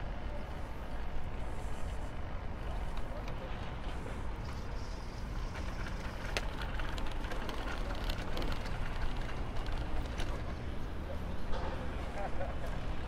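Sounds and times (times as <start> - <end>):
bicycle riding rumble: 0.0 - 13.0.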